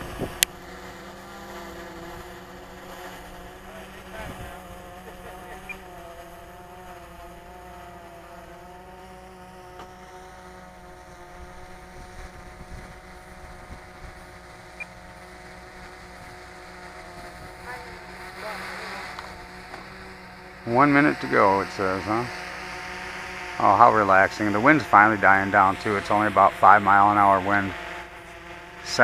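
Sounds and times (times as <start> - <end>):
model aircraft motor humming: 0.0 - 29.0.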